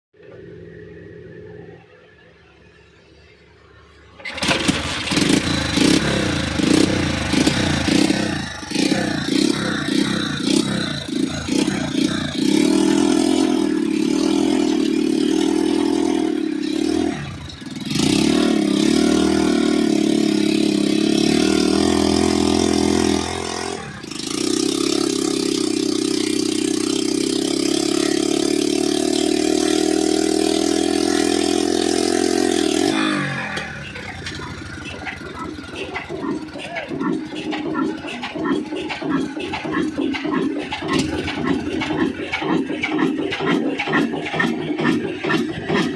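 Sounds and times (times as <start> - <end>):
diesel engine starting: 2.9 - 45.9.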